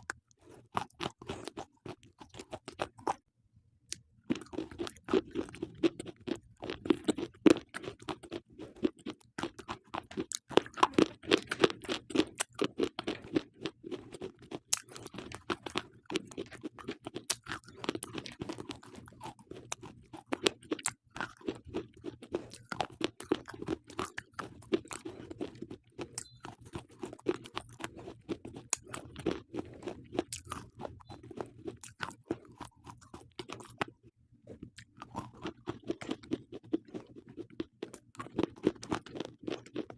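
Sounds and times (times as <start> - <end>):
crisp chewing crunches: 0.0 - 3.2, 3.9 - 39.9.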